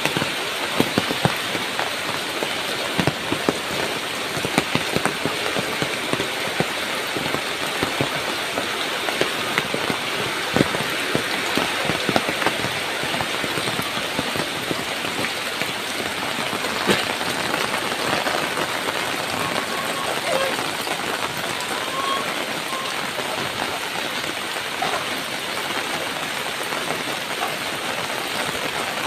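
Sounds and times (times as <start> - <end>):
close raindrops striking: 0.0 - 29.0
heavy rain falling: 0.0 - 29.0.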